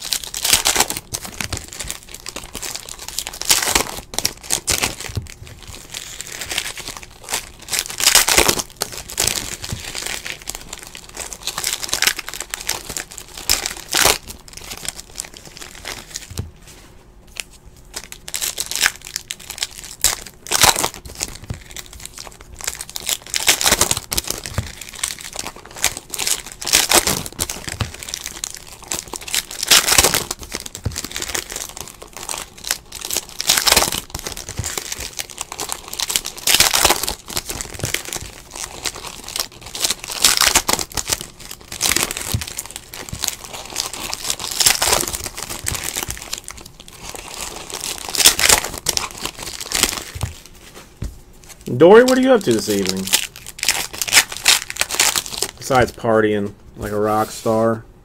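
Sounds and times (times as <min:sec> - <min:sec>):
wrappers crinkling and tearing: 0:00.0 - 0:56.2.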